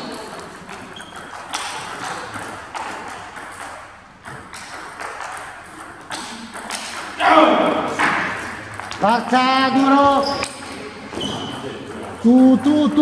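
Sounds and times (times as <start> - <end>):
table tennis ball pinging: 0.0 - 13.0.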